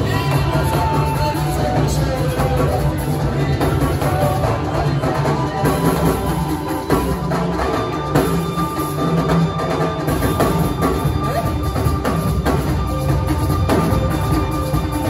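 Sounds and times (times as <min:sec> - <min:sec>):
drum kit: 0:00.0 - 0:15.0
hand drums: 0:00.0 - 0:15.0.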